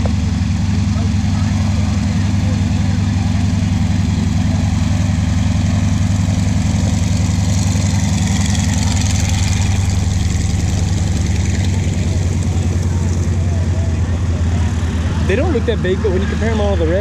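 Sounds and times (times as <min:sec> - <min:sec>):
radial aircraft engine rumbling: 0:00.0 - 0:17.0.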